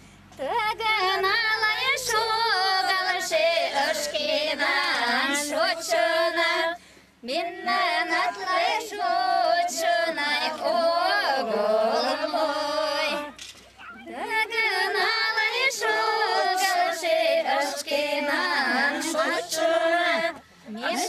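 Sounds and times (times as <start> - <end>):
women singing unaccompanied: 0.3 - 13.4, 14.0 - 21.0.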